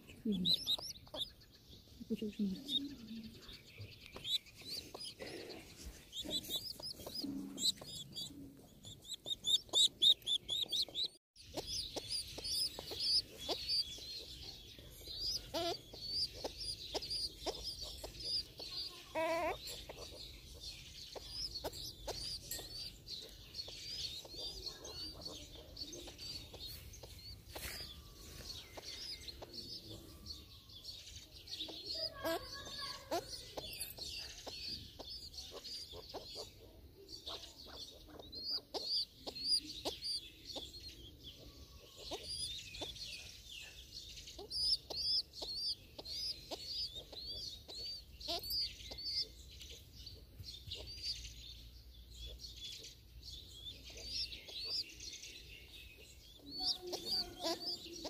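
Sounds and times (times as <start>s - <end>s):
hen clucking: 0.0s - 30.6s, 31.6s - 43.3s, 44.3s - 51.2s, 53.6s - 55.0s, 56.3s - 58.0s
birds chirping and peeping: 0.0s - 58.0s.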